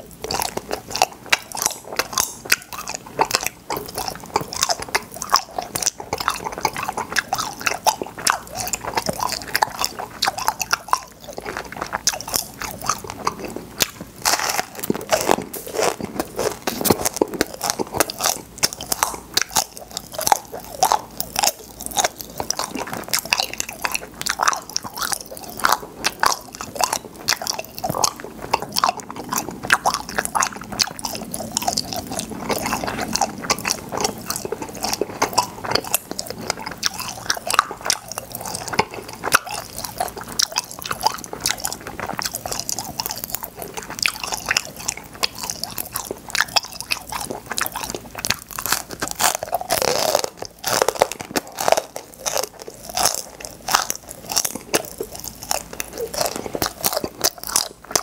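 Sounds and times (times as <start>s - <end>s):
chewing popping candy: 0.0s - 58.0s.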